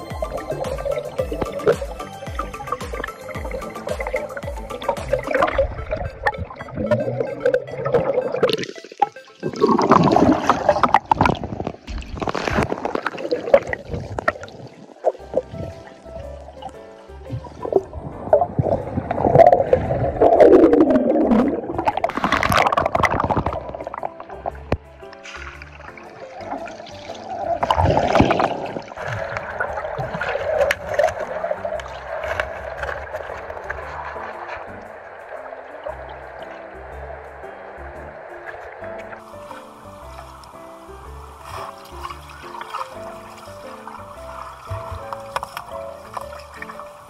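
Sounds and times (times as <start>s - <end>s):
faint background music: 0.0s - 47.0s
water bubbling and sloshing: 0.0s - 47.0s.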